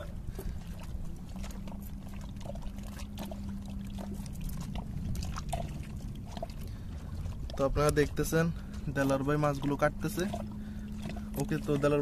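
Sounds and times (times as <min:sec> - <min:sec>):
low motor hum: 0:00.0 - 0:12.0
water sloshing around rocks: 0:00.0 - 0:12.0.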